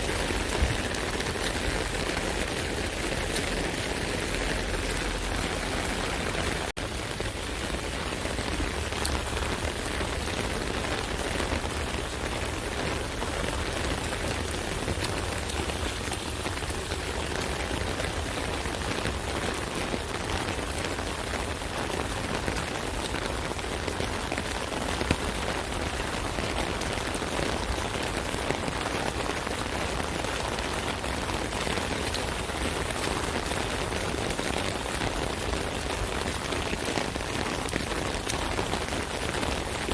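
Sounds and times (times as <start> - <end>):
rain on an umbrella: 0.0 - 39.9.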